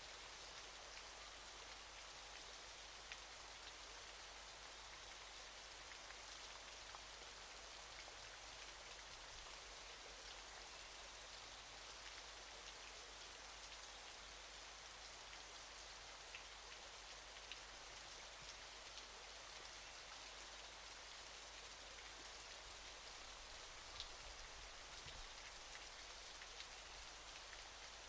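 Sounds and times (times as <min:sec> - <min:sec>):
faint hiss of falling water: 0:00.0 - 0:28.0.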